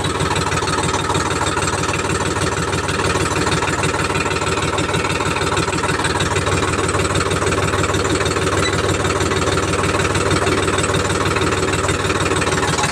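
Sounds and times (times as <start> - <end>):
tractor diesel engine idling: 0.0 - 12.9.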